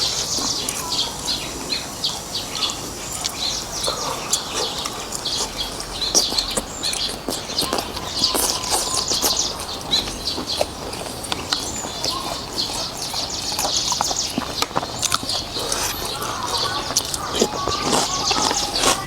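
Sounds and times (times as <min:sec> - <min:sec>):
wet chewing and mouth smacking: 0:00.0 - 0:19.0.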